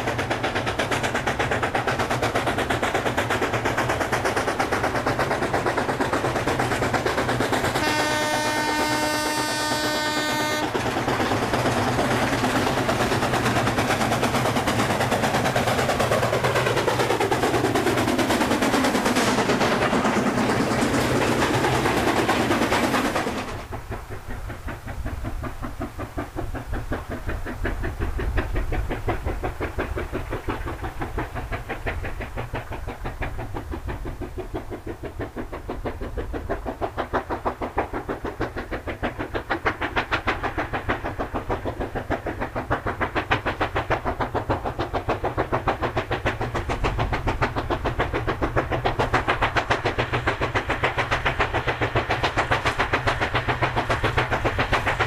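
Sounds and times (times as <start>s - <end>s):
steam locomotive exhaust beats: 0.0s - 55.0s
steam locomotive working hard: 0.0s - 55.0s.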